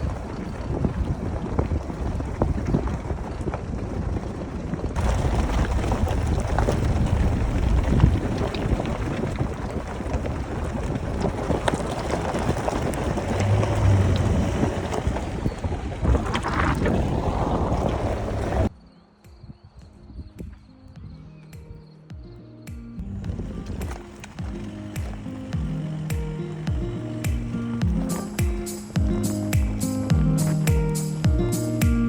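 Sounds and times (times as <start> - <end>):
vehicle rumbling on rough track: 0.0 - 18.8, 23.0 - 31.8
wind buffeting microphone: 0.0 - 21.9, 23.0 - 31.7.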